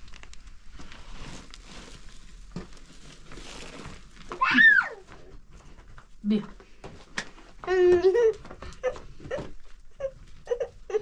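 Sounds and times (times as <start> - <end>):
rustling and handling noises: 0.0 - 11.0.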